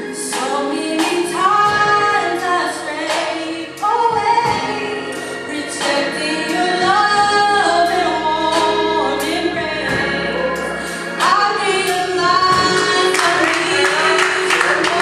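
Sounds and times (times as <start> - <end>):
drum kit: 0.0 - 15.0
gospel choir singing: 0.0 - 15.0
keyboard: 0.0 - 15.0.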